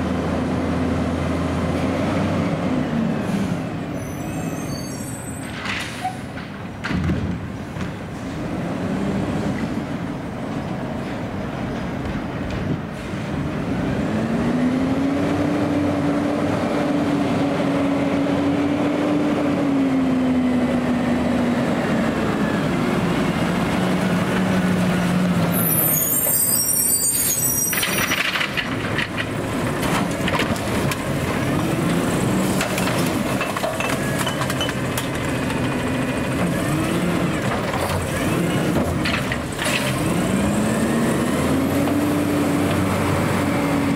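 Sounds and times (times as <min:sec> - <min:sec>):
garbage truck engine drone: 0:05.4 - 0:43.9.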